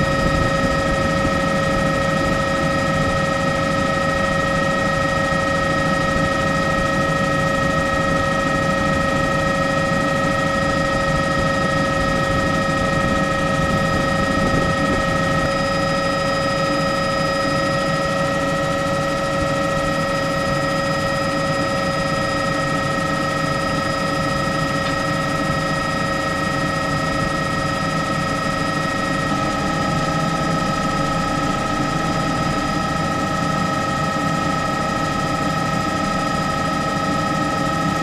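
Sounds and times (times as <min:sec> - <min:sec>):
engine drone with whining tones: 0:00.0 - 0:38.0.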